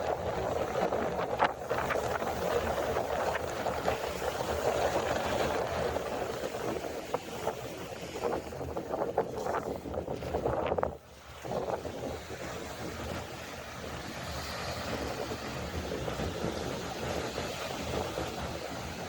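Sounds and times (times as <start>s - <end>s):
sea waves washing: 0.0s - 19.0s
wind on microphone: 0.0s - 19.0s.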